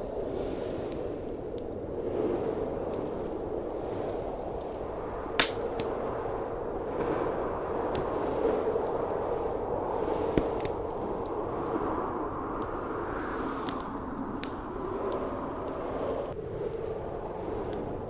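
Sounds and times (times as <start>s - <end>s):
howling blizzard wind: 0.0s - 18.0s
wood fire crackling and popping: 0.0s - 18.0s.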